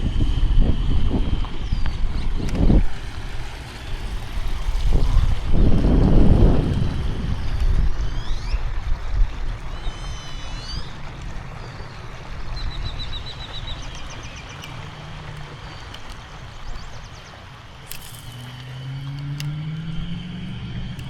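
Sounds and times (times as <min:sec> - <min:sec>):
steady low rumble: 0:00.0 - 0:21.0
birds chirping and trilling: 0:00.6 - 0:03.1, 0:06.4 - 0:21.0.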